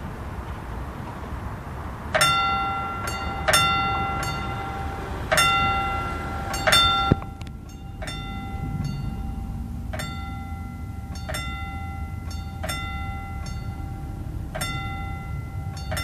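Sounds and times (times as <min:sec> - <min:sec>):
low rumble of train and street: 0:00.0 - 0:16.0
level crossing bell ringing: 0:02.2 - 0:16.0.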